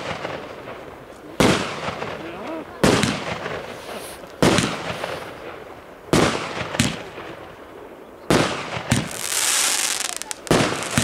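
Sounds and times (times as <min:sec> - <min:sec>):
fireworks bangs with echo: 0:00.0 - 0:11.0.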